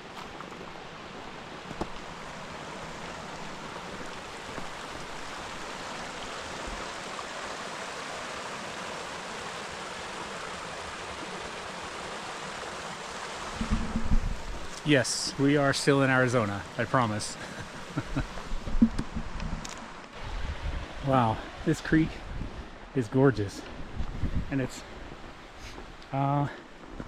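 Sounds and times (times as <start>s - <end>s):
creek water flowing: 0.0s - 27.0s.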